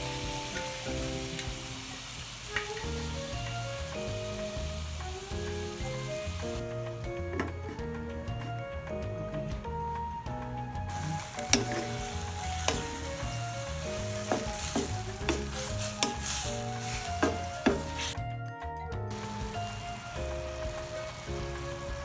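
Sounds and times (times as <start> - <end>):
food sizzling in a wok: 0.0 - 8.0, 10.8 - 18.2, 19.1 - 22.0.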